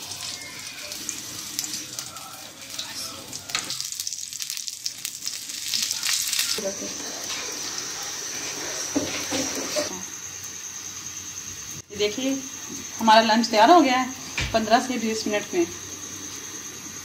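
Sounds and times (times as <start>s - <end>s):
hot oil sizzling and crackling: 0.0s - 17.0s.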